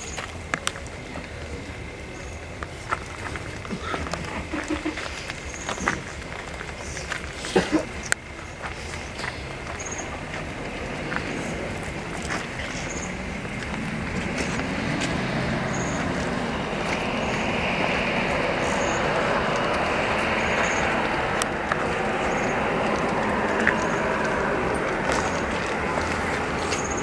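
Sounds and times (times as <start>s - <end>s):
crowd murmur and rustle: 0.0s - 27.0s.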